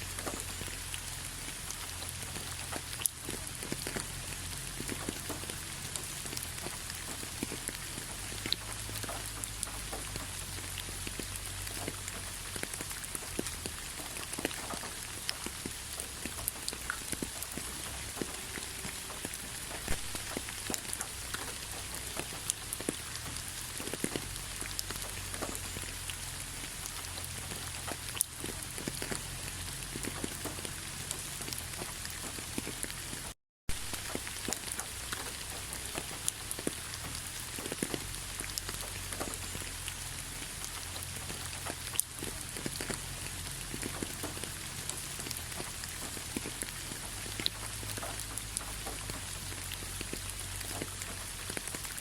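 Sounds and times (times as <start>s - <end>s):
light rain pattering: 0.0s - 52.0s.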